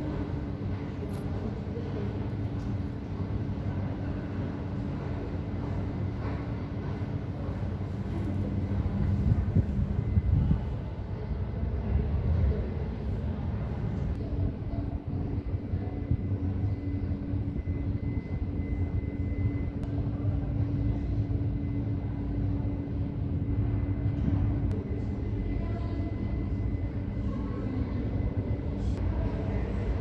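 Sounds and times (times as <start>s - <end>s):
droning hum: 0.0s - 30.0s.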